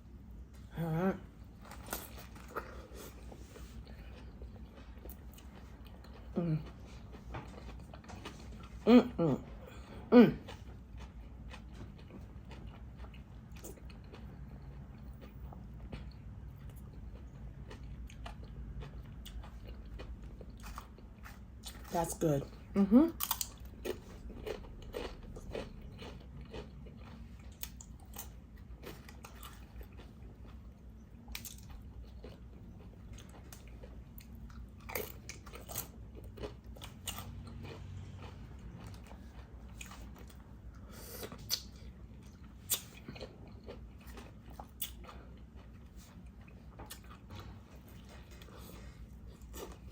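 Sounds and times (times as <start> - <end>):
person chewing a sandwich: 0.0 - 49.9.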